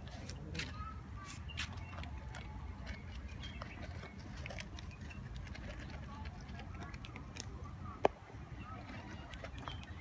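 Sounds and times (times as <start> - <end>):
cats crunching kibble: 0.0 - 10.0.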